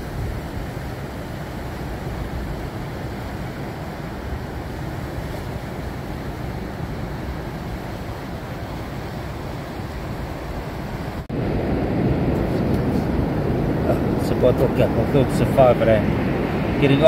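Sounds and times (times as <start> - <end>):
ocean waves breaking: 0.0 - 17.0
wind buffeting microphone: 0.0 - 17.0.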